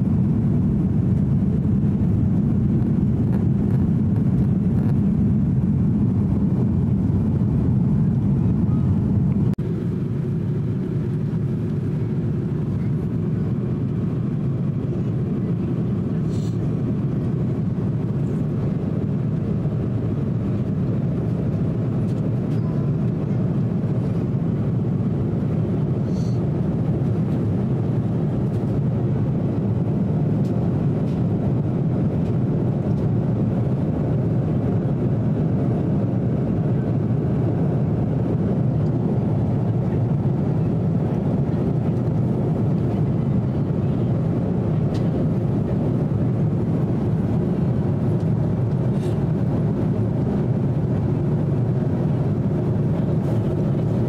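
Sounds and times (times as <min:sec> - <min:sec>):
airplane cabin roar: 0:00.0 - 0:54.0.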